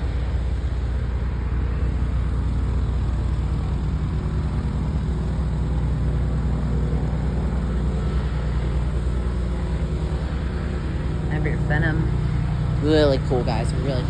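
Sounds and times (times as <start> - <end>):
aircraft engine droning: 0.0 - 14.0.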